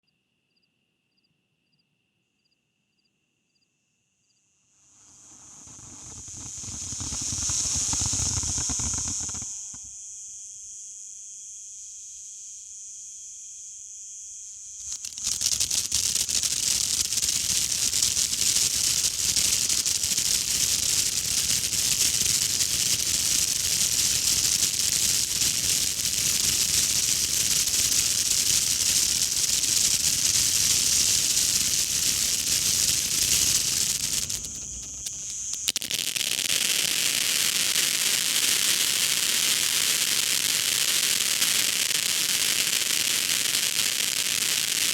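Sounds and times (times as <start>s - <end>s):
firework hissing and crackling: 4.8s - 13.3s, 14.4s - 44.9s.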